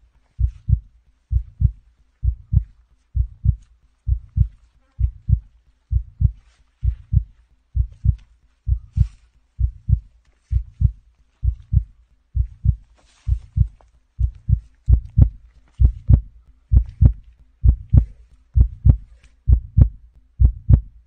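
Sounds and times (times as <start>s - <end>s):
faint rustles: 0.0s - 19.5s
heartbeat thumps: 0.0s - 21.0s.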